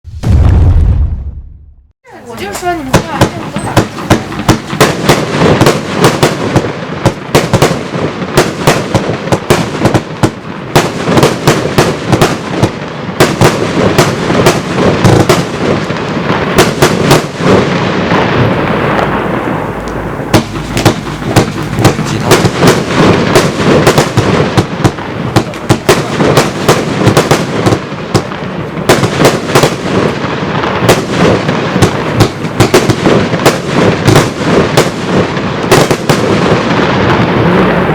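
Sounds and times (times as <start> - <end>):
firework cake launch thumps and bursts: 2.1 - 37.9.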